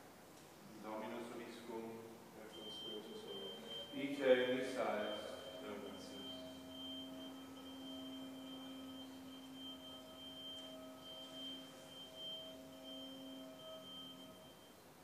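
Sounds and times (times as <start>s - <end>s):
faint held tones: 2.4s - 15.0s.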